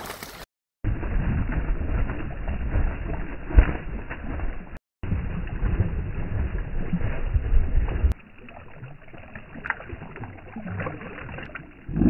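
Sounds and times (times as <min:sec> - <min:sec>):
ducks splashing water with wings: 0:00.0 - 0:11.5
water dripping: 0:01.8 - 0:12.0.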